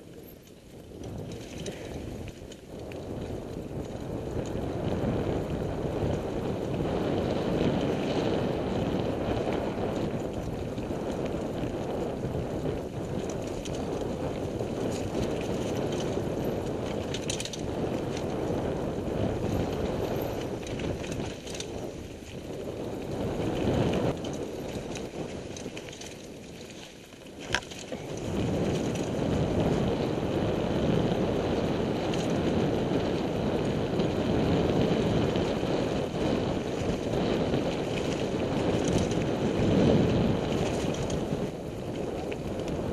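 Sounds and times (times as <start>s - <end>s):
bike clicks and rattles: 0.0s - 42.9s
bike tyres rumbling on dirt: 0.0s - 42.9s.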